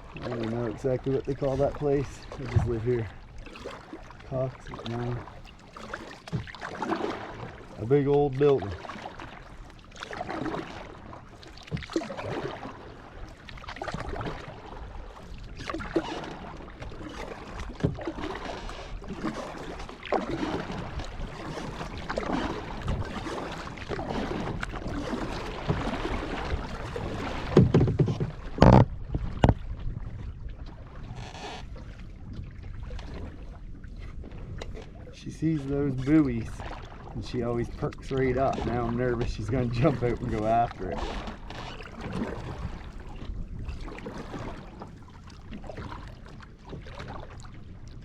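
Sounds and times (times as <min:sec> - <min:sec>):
paddle splashing in water: 0:00.0 - 0:48.0
water dripping and lapping: 0:00.0 - 0:48.0.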